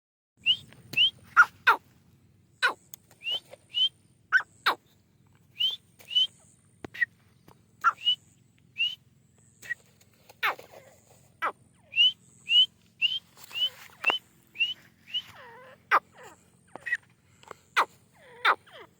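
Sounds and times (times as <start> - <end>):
partridges calling: 0.4 - 18.9.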